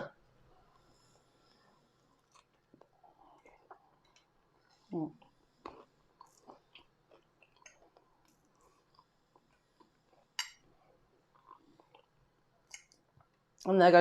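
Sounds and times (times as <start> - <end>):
chewing fries: 0.6 - 13.6.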